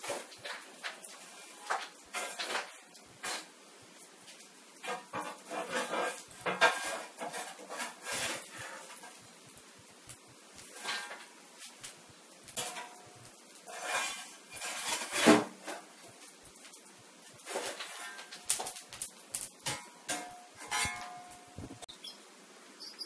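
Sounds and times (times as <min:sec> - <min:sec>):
stiff plastic crackling: 0:00.0 - 0:21.9.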